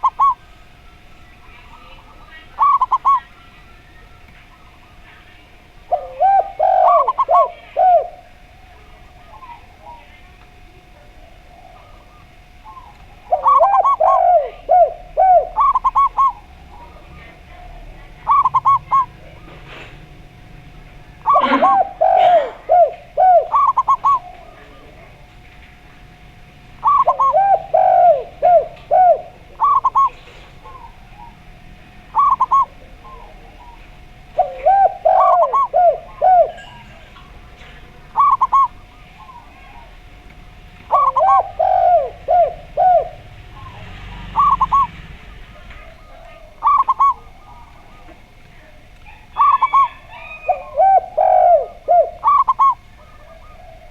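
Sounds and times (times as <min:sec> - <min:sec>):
doves cooing: 0:00.0 - 0:53.9.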